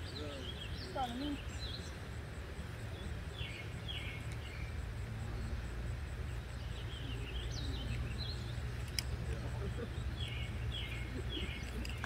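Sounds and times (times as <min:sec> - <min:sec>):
bird chirps: 0:00.0 - 0:02.1, 0:02.7 - 0:12.0
birds calling: 0:00.0 - 0:12.0.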